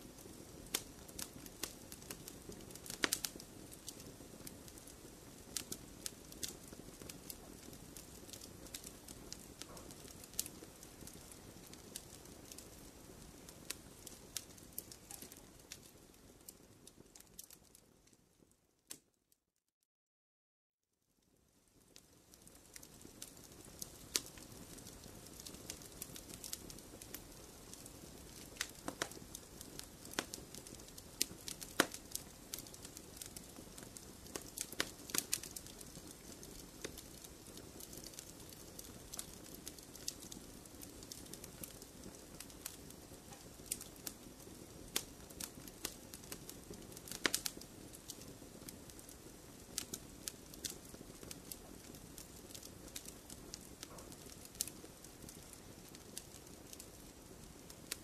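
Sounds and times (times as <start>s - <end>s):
log fire crackling: 0.0s - 19.1s, 21.3s - 58.0s.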